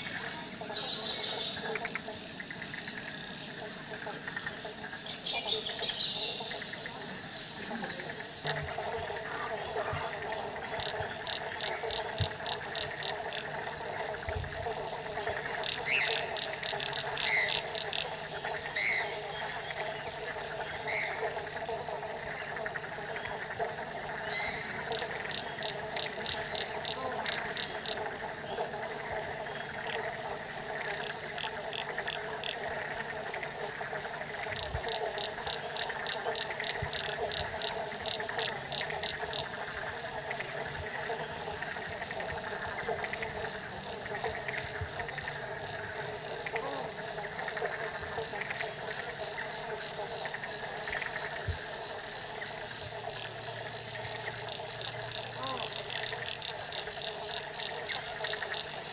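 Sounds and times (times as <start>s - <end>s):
frogs droning: 0.0s - 58.9s
rapid ticking frog calls: 0.0s - 58.9s
short sharp frog calls: 0.0s - 58.9s.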